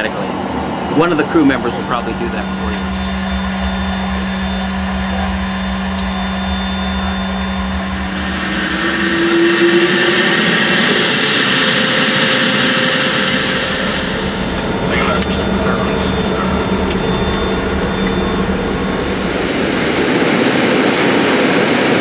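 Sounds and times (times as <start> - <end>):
jet engine turbine whine rising: 0.0 - 22.0
steady hum: 0.0 - 22.0.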